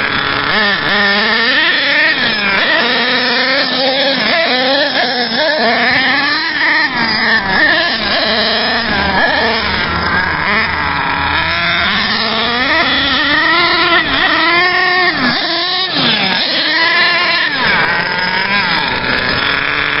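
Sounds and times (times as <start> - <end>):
model truck engine revving: 0.0 - 20.0.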